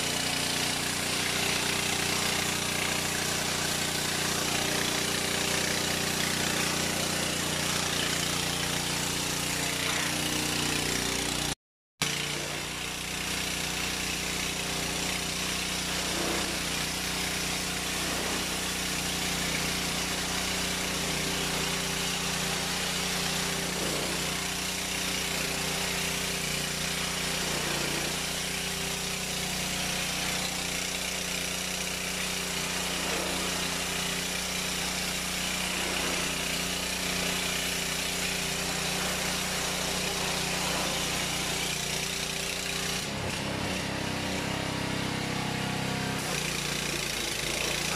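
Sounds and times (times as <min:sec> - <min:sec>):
high-pressure water jet hissing: 0:00.0 - 0:47.9
pressure washer engine running: 0:00.0 - 0:47.9.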